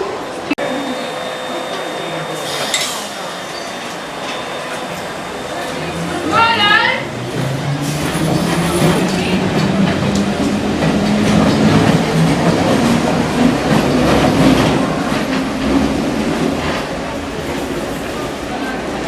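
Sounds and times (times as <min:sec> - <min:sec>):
train low hum: 0:00.0 - 0:19.0
train wheels rumbling: 0:01.2 - 0:19.0.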